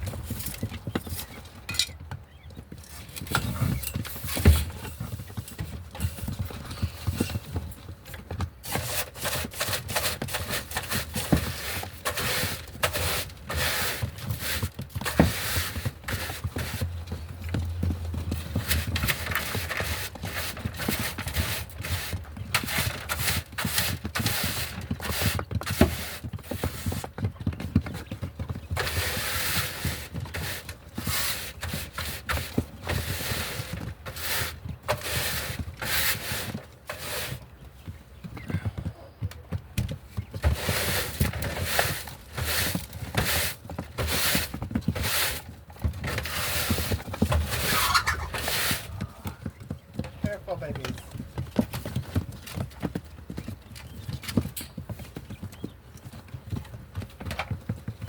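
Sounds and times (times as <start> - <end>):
birds tapping on hard surfaces: 0.0 - 30.9, 36.5 - 58.0.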